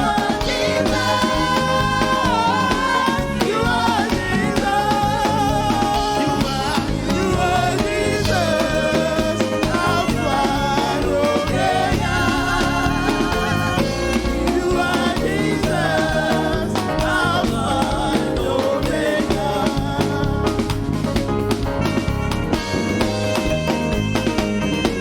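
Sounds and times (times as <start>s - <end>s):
voices singing with vibrato: 0.0s - 21.2s
gospel worship music: 0.0s - 25.0s.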